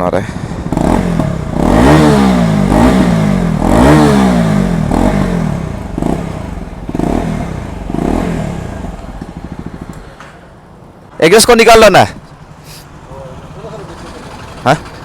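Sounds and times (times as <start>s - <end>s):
motorcycle engine revving: 0.1s - 10.2s, 12.4s - 15.0s.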